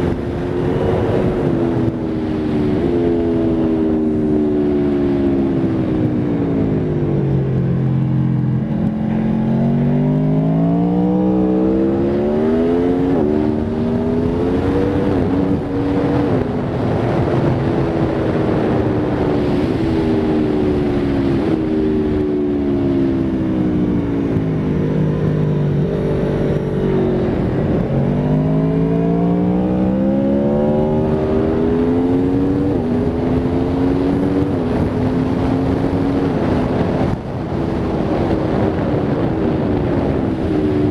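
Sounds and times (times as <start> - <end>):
motorcycle engine revving: 0.0 - 40.9
wind rush on microphone: 0.0 - 40.9.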